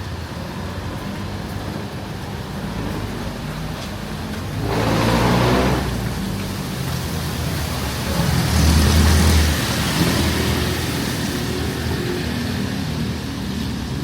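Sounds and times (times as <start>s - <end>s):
rain and tyres hissing: 0.0s - 14.0s
vehicle engine rumble: 0.0s - 14.0s.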